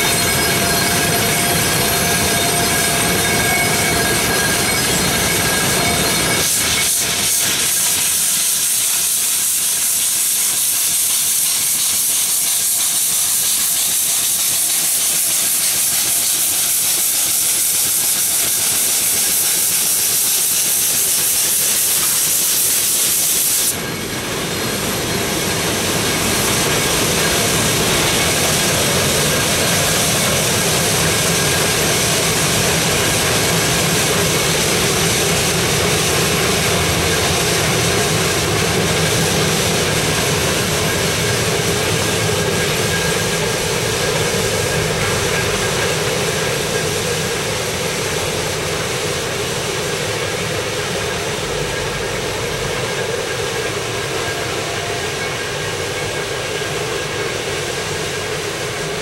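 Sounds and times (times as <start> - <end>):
deep locomotive running sound: 0.0 - 59.0
steam locomotive hissing: 0.0 - 59.0.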